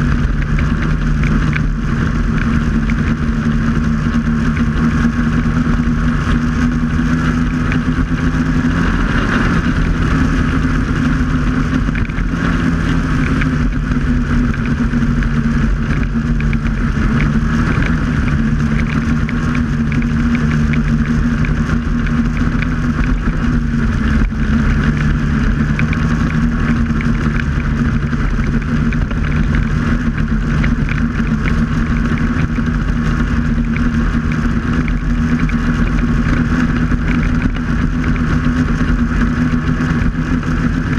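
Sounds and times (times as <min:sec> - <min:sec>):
snowmobile engine droning: 0:00.0 - 0:40.9.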